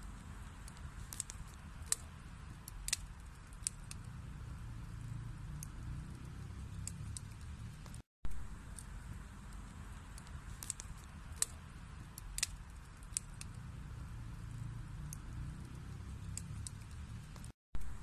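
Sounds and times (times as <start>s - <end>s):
burning wood crackling and popping: 0.0s - 18.0s
fire rumbling: 0.0s - 18.0s.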